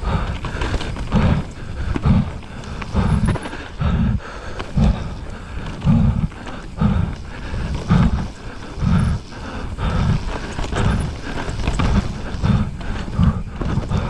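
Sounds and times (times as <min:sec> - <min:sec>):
person breathing hard: 0:00.0 - 0:14.0
tyres rushing on trail: 0:00.0 - 0:14.0.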